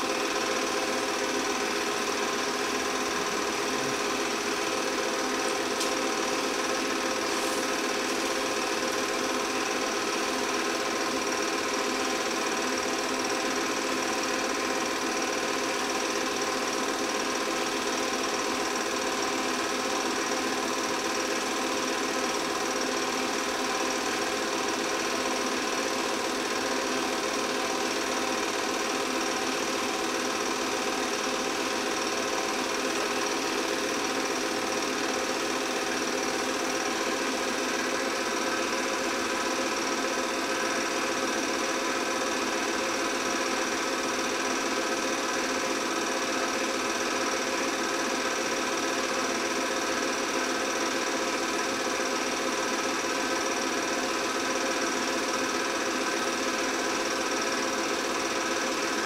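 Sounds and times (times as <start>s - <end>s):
film projector clattering: 0.0s - 59.0s.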